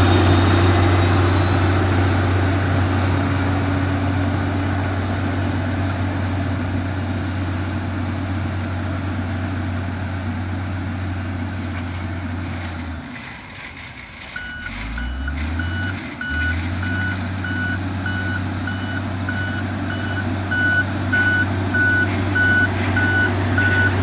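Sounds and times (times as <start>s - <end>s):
construction machine engine drone: 0.0s - 24.0s.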